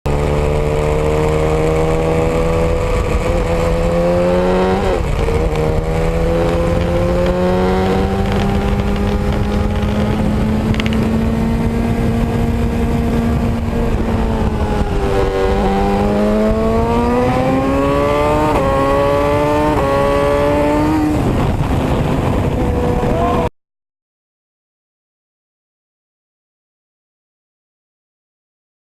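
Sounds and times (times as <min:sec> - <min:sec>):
vehicle engine shifting gears: 0:00.1 - 0:23.5.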